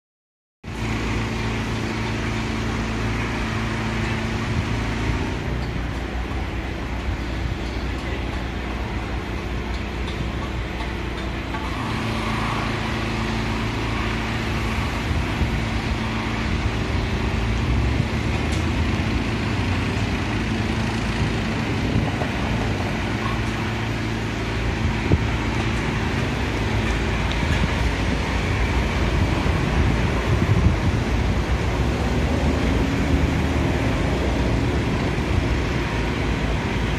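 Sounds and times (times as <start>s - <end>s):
city traffic noise: 0.6s - 36.9s.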